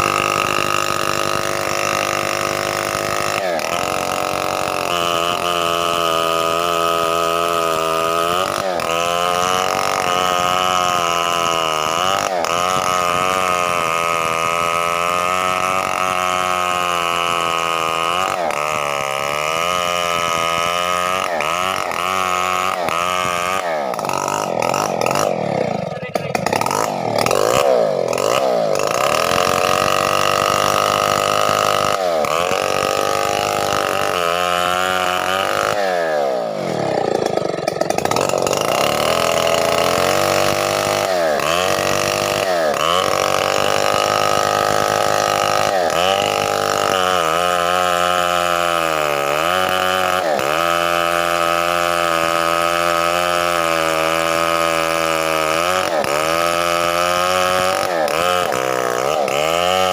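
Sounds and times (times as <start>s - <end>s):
chainsaw running at high revs: 0.0s - 59.9s.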